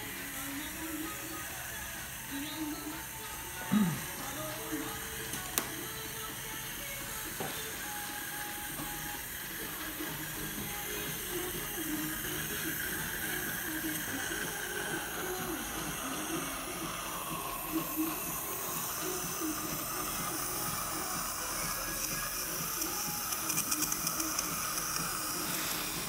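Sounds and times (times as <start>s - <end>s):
saliva ejector hissing: 3.5s - 26.0s.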